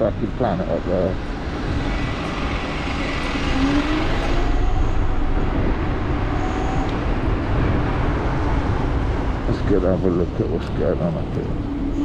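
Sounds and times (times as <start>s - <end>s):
tyre and road noise: 0.0s - 12.0s
wind on microphone: 1.2s - 12.0s.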